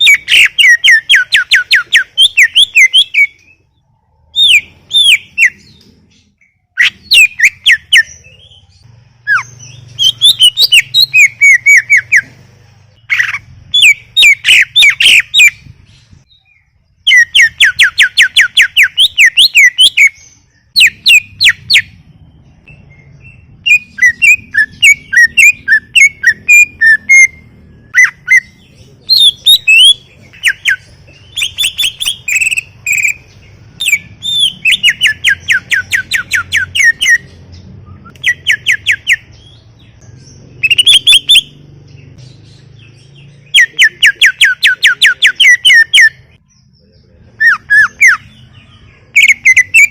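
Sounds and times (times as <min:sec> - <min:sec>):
bird singing: 0:00.0 - 0:49.9.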